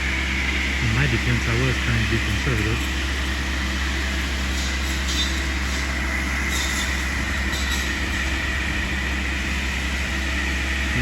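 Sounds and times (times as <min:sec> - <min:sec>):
distant machine drone: 0:00.0 - 0:11.0
high mechanical whine: 0:00.0 - 0:11.0.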